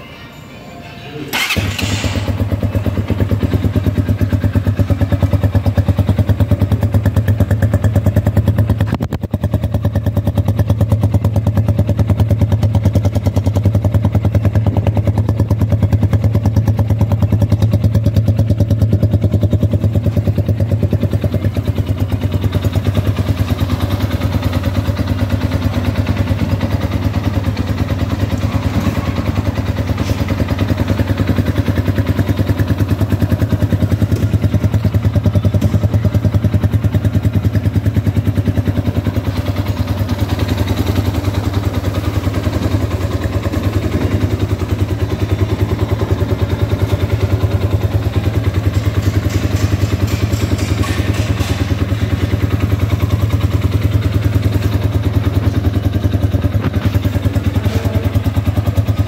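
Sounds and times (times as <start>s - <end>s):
motorcycle engine idling: 1.3s - 59.0s.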